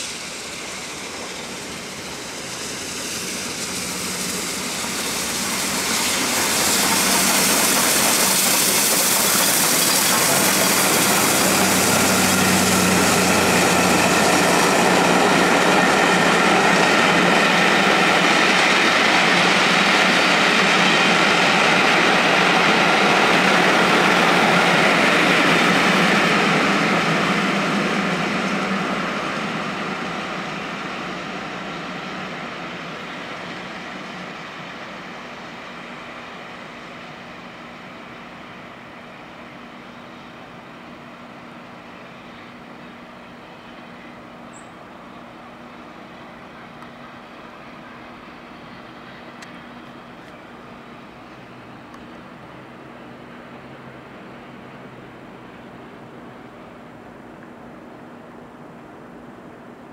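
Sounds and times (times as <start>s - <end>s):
coaches rolling on rails: 0.0s - 59.9s
steam locomotive passing: 0.0s - 59.9s.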